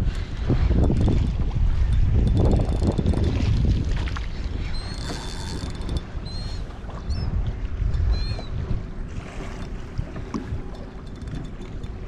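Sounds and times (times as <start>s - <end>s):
waves slapping against hull: 0.0s - 12.0s
wind on microphone: 0.0s - 12.0s.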